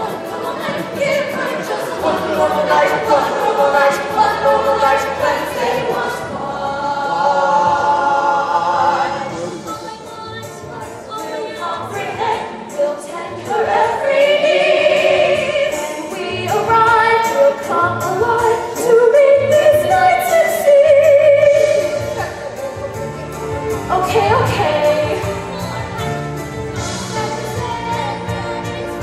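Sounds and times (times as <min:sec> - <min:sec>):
group singing musical theatre song: 0:00.0 - 0:29.0
instrumental accompaniment: 0:00.0 - 0:29.0.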